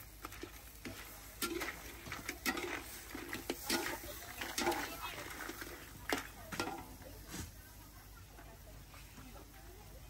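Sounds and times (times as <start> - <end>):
faint voices: 0.5 - 10.0.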